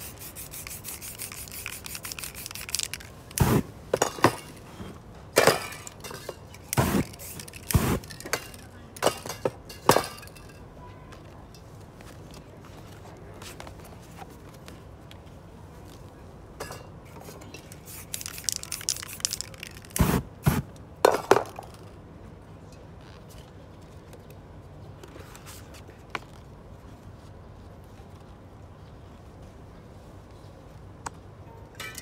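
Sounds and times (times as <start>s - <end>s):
low steady background noise: 0.0s - 32.0s.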